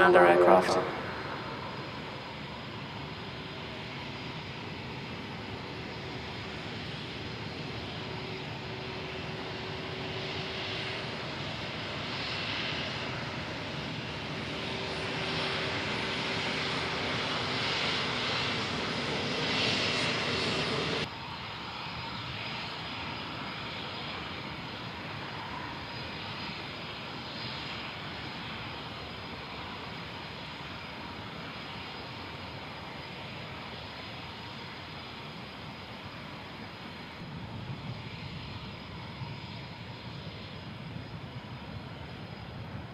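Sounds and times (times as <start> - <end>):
jet engine whine and rush: 0.0 - 42.9.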